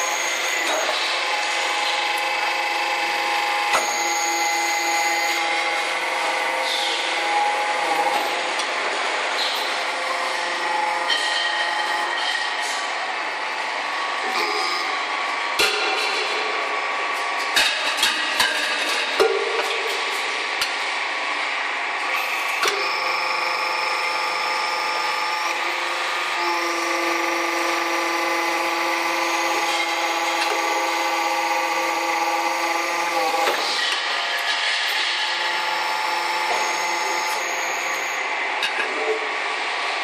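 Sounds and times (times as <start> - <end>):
multi-tone machine whine: 0.0 - 17.4, 19.7 - 40.0.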